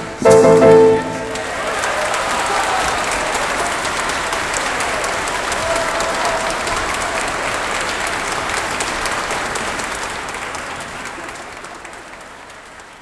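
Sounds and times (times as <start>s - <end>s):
audience applauding: 0.6s - 13.0s.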